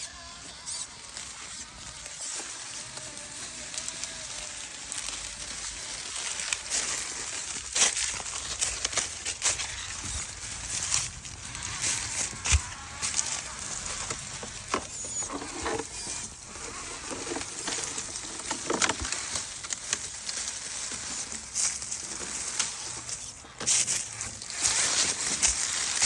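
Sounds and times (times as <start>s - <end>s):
scratching and rustling plastic: 0.0s - 26.0s.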